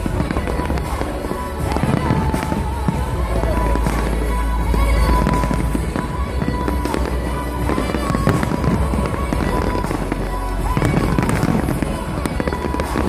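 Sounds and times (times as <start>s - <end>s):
fireworks bursting and crackling: 0.0s - 13.0s
music: 0.0s - 13.0s.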